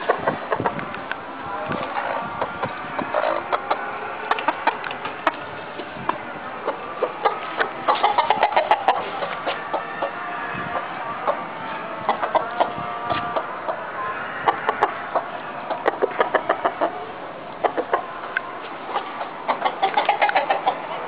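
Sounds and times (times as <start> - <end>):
chickens clucking: 0.0 - 1.0, 1.6 - 21.0.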